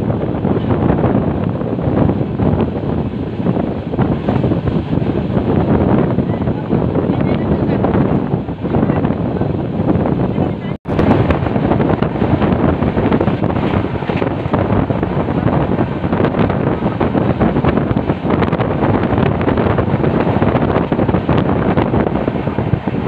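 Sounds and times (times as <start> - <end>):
train wheels rumbling on track: 0.0 - 23.0
wind buffeting microphone: 0.0 - 23.0.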